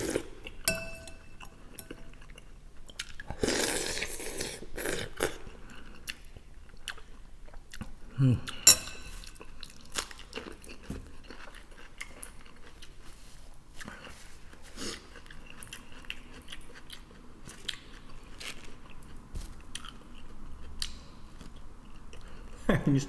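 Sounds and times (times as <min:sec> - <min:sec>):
man chewing: 0:00.0 - 0:00.6, 0:01.4 - 0:22.6.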